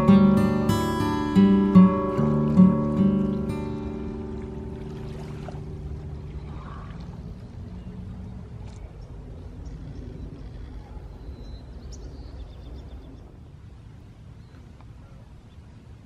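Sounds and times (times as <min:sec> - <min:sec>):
steady low rumble: 0:00.0 - 0:14.4.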